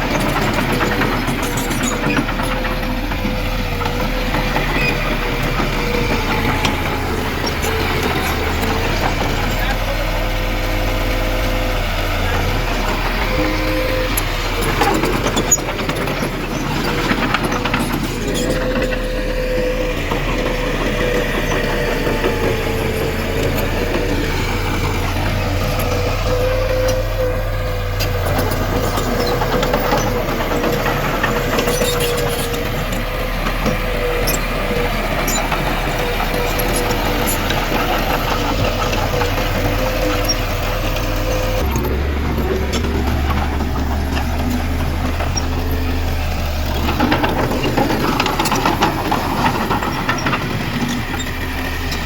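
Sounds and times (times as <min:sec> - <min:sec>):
bulldozer engine rumble: 0:00.0 - 0:52.0.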